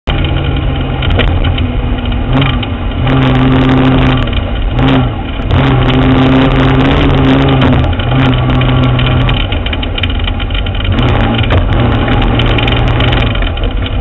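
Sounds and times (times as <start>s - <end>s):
off-road vehicle engine running: 0.0s - 14.0s
gravel clicking under tyres: 0.1s - 14.0s.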